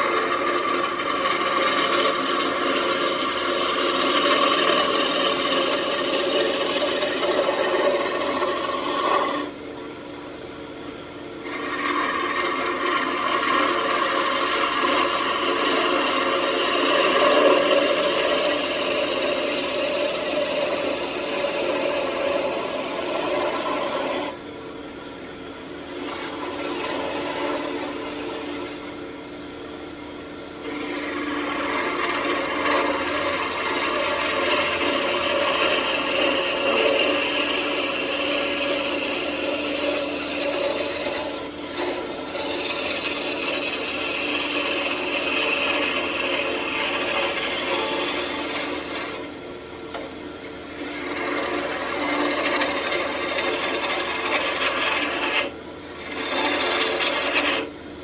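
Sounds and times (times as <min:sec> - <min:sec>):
lathe humming: 0:00.0 - 0:09.6, 0:11.4 - 0:24.4, 0:25.7 - 0:28.9, 0:30.6 - 0:49.3, 0:50.6 - 0:57.8
lathe tool scraping wood: 0:00.0 - 0:09.6, 0:11.4 - 0:24.4, 0:25.7 - 0:28.9, 0:30.6 - 0:49.3, 0:50.6 - 0:57.7.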